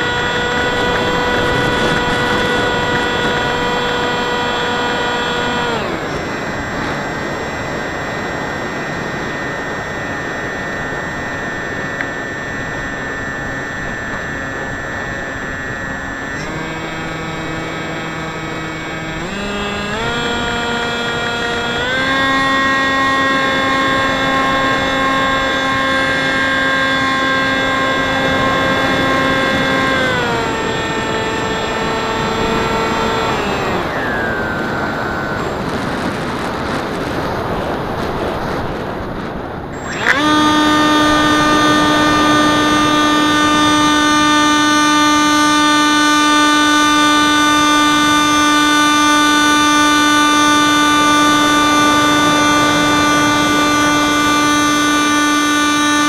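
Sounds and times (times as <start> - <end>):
airflow noise: 0.0 - 55.8
electric motor and propeller whining: 0.0 - 56.0.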